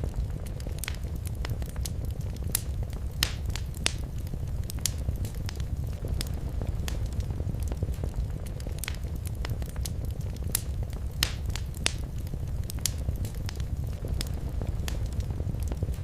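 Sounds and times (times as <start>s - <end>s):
low rumble of flames: 0.0s - 16.0s
wood fire pops and snaps: 0.0s - 16.0s.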